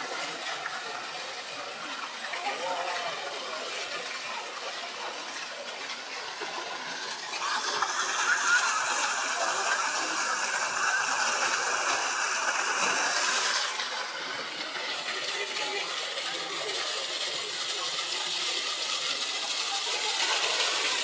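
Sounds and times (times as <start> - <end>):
waterfall pouring into a pool: 0.0 - 21.0.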